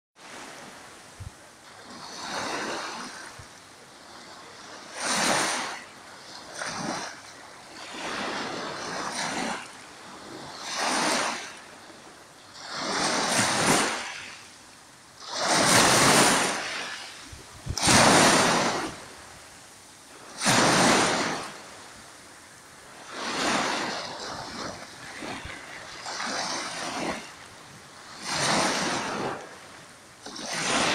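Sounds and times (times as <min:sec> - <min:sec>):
small waves washing ashore: 0:00.2 - 0:30.9.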